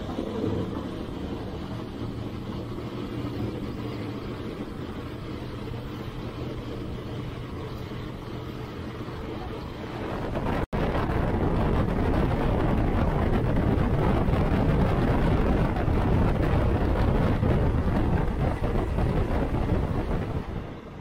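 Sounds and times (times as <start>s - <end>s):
passenger train rumbling on track: 0.0s - 21.0s.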